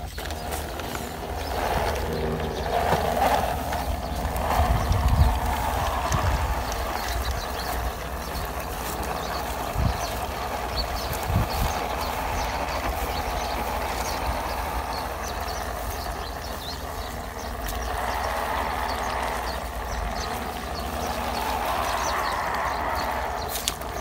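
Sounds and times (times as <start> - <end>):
electric motor whining: 0.0 - 24.0
tyres crackling: 0.0 - 24.0.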